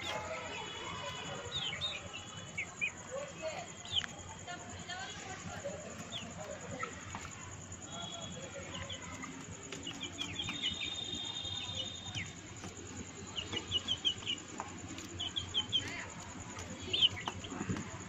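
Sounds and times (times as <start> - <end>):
chickens pecking on concrete: 0.0 - 18.0
high chick chirps: 0.0 - 18.0.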